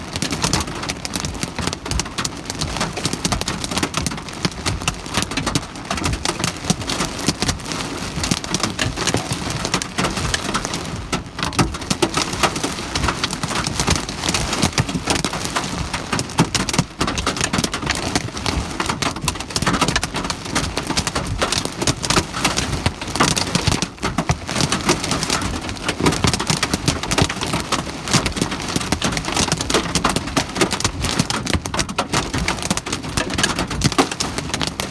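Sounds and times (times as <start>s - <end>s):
hailstones striking a surface: 0.1s - 34.9s.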